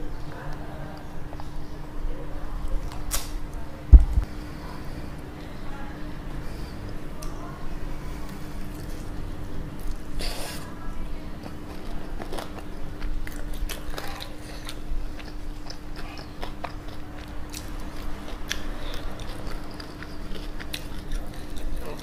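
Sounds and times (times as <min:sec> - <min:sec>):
close chewing with crisp clicks: 0:00.1 - 0:02.0, 0:02.6 - 0:03.6, 0:06.3 - 0:07.6, 0:08.2 - 0:22.0.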